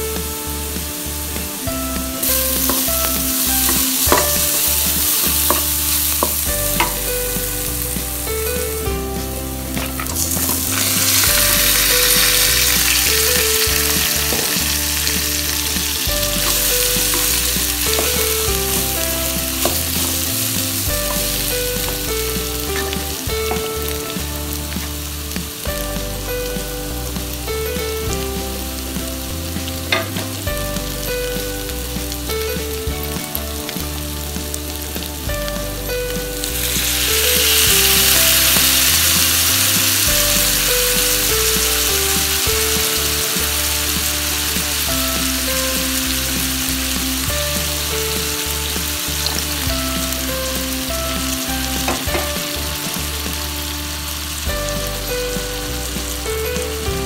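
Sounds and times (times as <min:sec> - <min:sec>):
meat sizzling in oil: 0:00.0 - 0:57.0.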